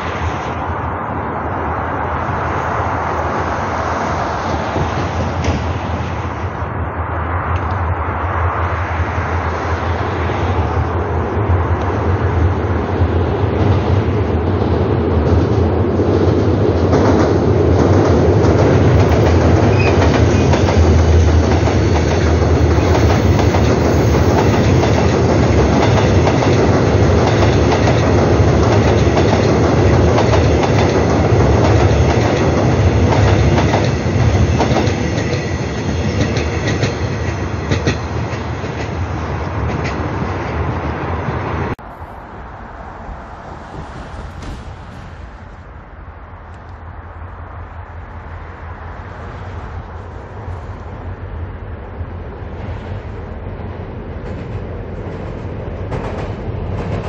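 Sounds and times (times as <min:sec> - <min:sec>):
train cars rolling past: 0:00.0 - 0:57.0.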